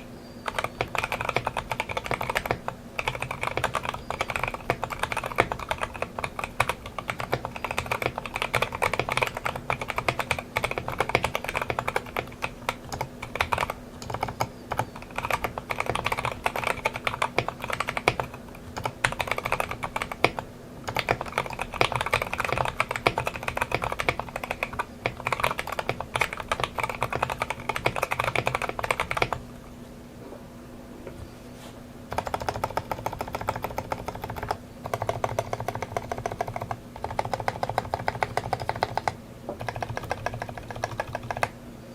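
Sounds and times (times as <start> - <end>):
faint low hum: 0.0 - 41.9
mechanical keyboard typing: 0.4 - 29.4, 32.1 - 41.6.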